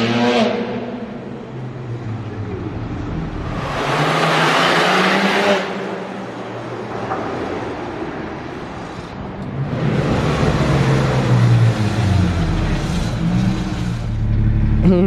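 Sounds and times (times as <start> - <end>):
car engine revving: 0.0 - 6.8, 9.4 - 15.0.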